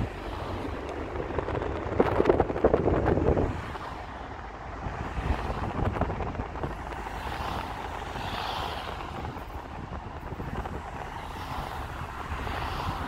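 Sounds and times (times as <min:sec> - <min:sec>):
car road noise: 0:00.0 - 0:13.0
passing traffic: 0:00.0 - 0:13.0.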